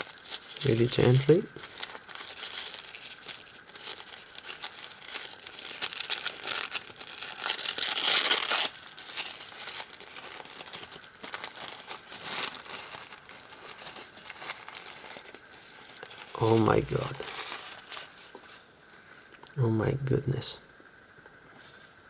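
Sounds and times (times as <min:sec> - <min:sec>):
packaging crinkling and tearing: 0:00.0 - 0:18.7.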